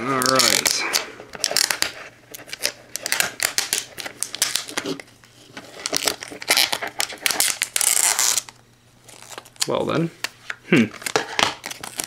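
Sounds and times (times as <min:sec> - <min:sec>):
plastic wrapping crinkling and tearing: 0:00.0 - 0:09.8, 0:10.9 - 0:12.0.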